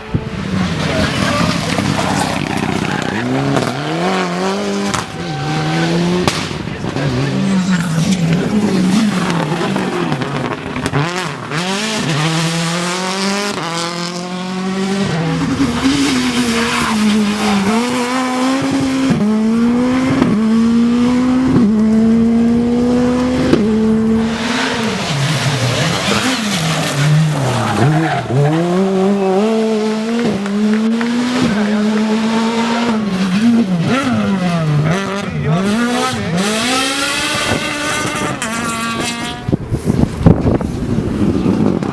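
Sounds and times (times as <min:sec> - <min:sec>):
rally car engine revving: 0:00.0 - 0:41.9.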